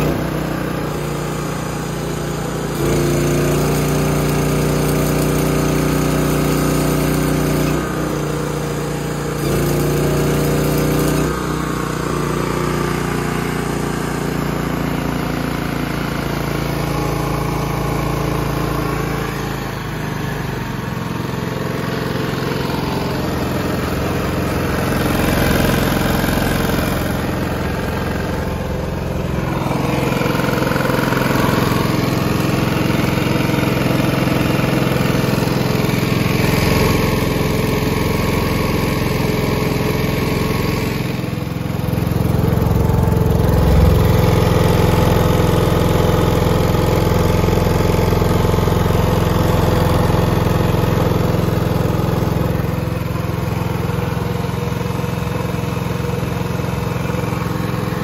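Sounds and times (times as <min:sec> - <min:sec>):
generator engine running: 0:00.0 - 0:58.0.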